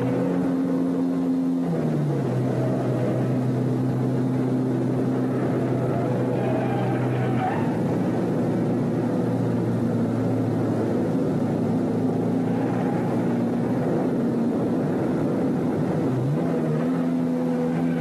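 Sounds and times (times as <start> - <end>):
car engine droning: 0.0 - 18.0
road noise: 0.0 - 18.0.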